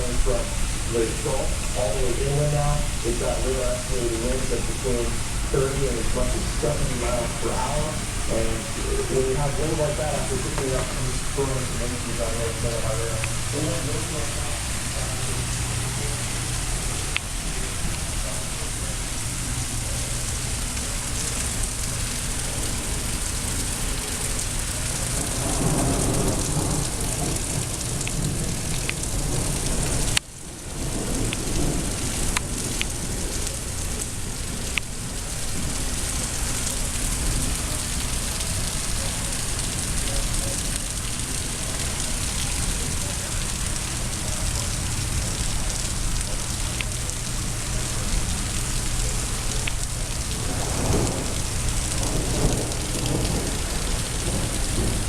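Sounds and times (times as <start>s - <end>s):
heavy rain pouring: 0.0s - 55.0s
thunder rumbling: 0.0s - 55.0s.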